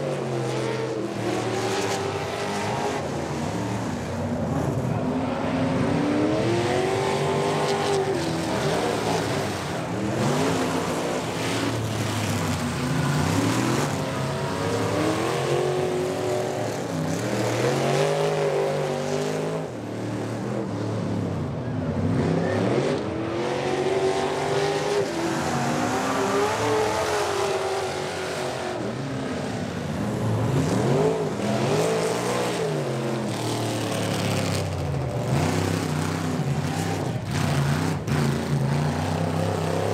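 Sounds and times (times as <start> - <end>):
race truck engines accelerating: 0.0 - 39.9.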